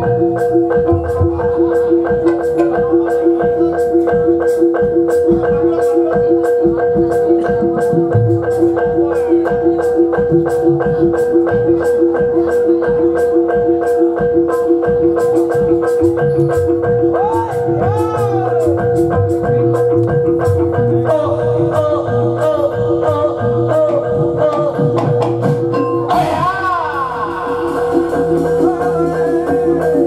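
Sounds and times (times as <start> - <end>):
gamelan music: 0.0 - 30.0
low drum beats: 0.0 - 30.0.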